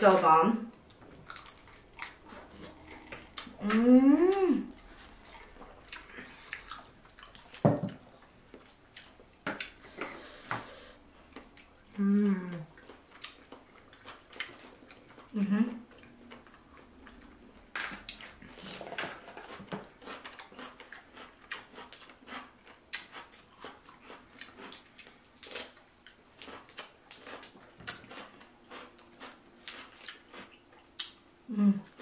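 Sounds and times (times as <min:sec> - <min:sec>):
wet eating sounds: 0:00.1 - 0:10.2, 0:11.1 - 0:32.0.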